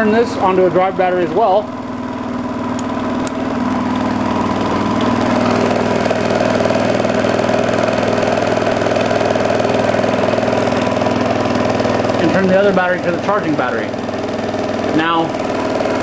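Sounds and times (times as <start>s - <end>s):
motor wheel whirring hum: 0.0s - 16.0s.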